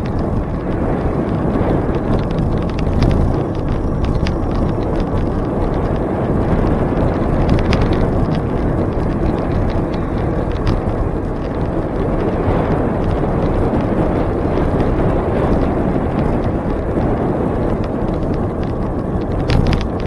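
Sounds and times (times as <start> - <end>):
light rattling clicks: 0.0 - 13.9, 15.4 - 20.0
bicycle tyre noise: 0.0 - 20.0
wind on microphone: 0.0 - 20.0.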